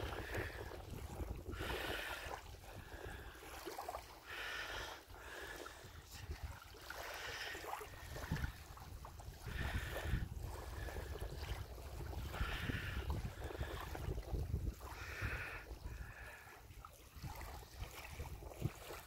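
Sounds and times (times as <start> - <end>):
wind rumble on microphone: 0.0 - 3.6, 5.7 - 6.8, 7.8 - 19.0
small waves lapping on pebbles: 0.0 - 19.0.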